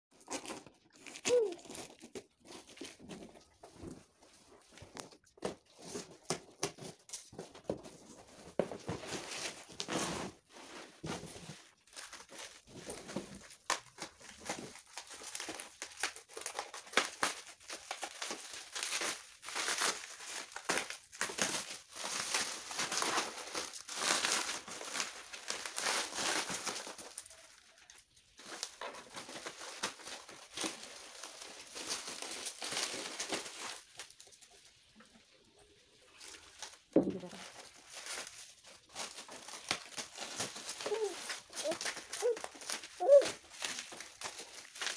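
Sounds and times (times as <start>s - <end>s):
plastic film crinkling and tearing: 0.1s - 35.0s, 36.0s - 44.9s.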